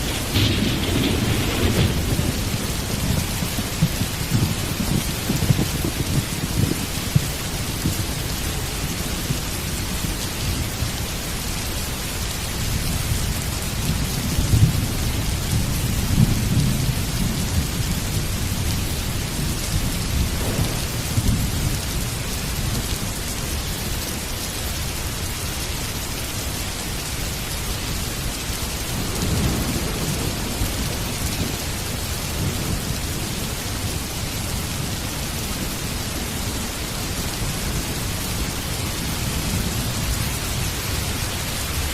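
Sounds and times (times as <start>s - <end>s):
rolling thunder rumbling: 0.0s - 23.9s, 28.0s - 41.9s
heavy rain falling: 0.0s - 41.9s.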